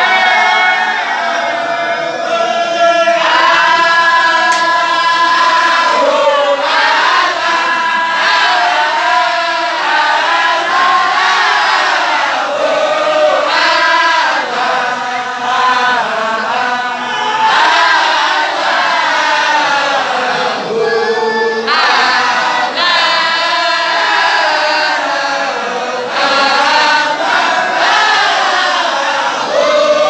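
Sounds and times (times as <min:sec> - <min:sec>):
men chanting together: 0:00.0 - 0:30.0.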